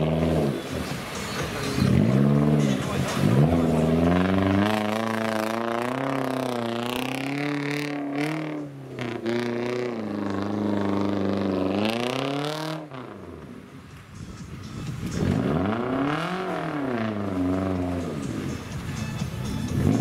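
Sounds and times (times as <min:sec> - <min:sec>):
off-road engines revving: 0:00.0 - 0:13.7, 0:14.4 - 0:20.0.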